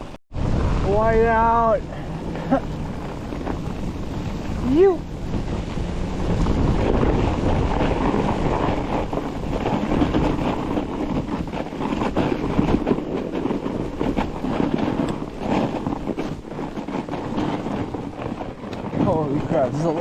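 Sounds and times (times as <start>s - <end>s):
tyres rushing on snow: 0.0s - 20.0s
wind buffeting microphone: 0.0s - 20.0s
bike knocks and rattles: 2.4s - 20.0s.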